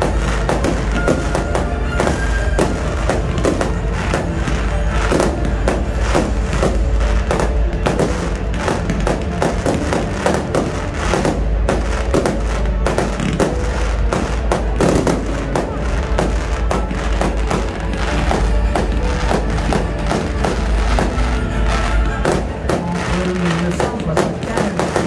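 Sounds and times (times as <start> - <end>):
fireworks bangs and crackles: 0.0 - 25.0
loud music: 0.0 - 25.0.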